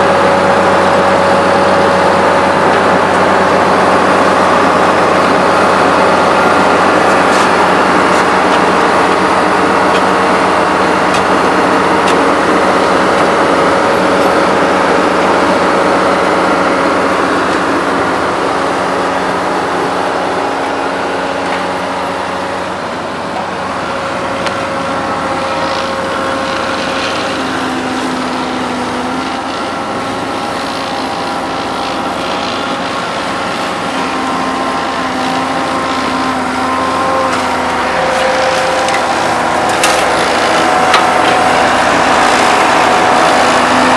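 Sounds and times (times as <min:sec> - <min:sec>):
heavy diesel engines running: 0:00.0 - 0:43.9.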